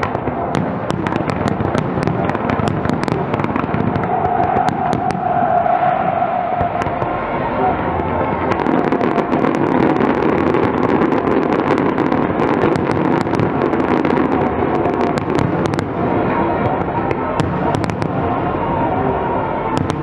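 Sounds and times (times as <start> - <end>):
fireworks crackling: 0.0 - 20.0.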